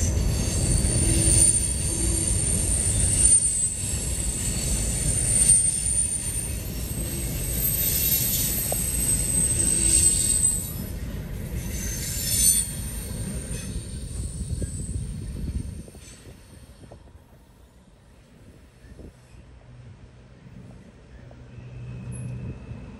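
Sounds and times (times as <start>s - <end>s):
train wheels squealing: 0.0s - 19.8s, 20.4s - 22.9s
freight train rumbling past: 0.0s - 22.9s.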